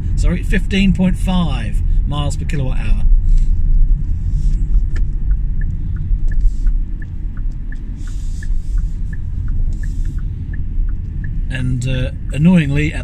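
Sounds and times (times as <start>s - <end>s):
turn signal ticking: 0.0s - 1.8s, 2.7s - 13.0s
road and tyre rumble: 0.0s - 13.0s.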